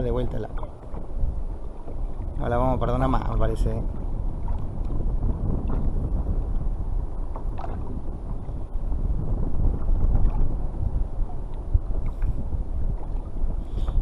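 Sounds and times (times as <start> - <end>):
water sloshing against hull: 0.0 - 14.0
wind buffeting microphone: 0.0 - 14.0.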